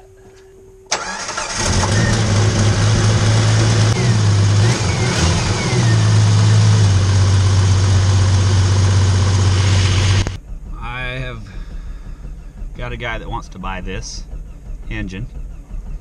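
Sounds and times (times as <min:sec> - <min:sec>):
car engine starting and idling: 0:00.9 - 0:16.0.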